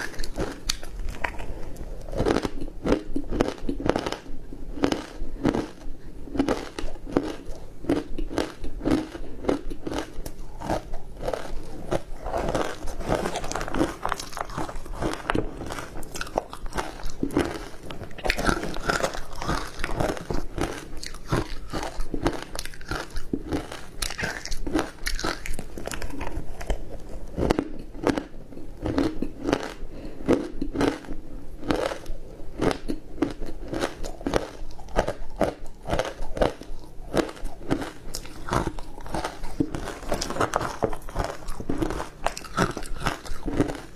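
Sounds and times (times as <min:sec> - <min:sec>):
ice crunching being chewed: 0:00.0 - 0:43.9.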